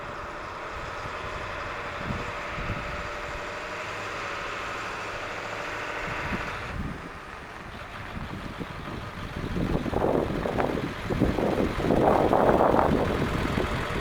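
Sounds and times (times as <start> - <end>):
wind buffeting microphone: 0.0 - 3.7, 5.9 - 14.0
diesel engine running steadily: 0.0 - 14.0.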